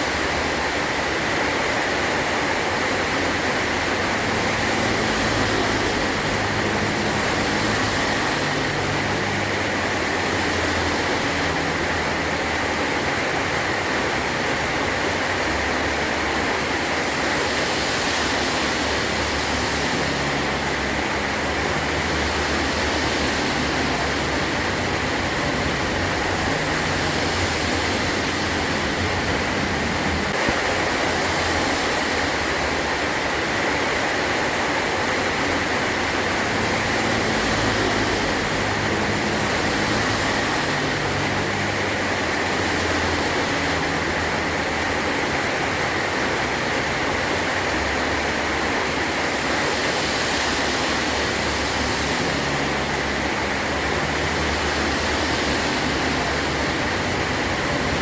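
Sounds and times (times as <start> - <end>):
heavy rain on metal roof: 0.0 - 58.0.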